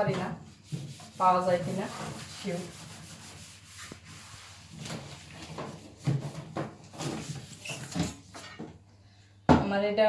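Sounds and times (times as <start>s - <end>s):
sponge scrubbing a microwave: 0.0s - 8.3s.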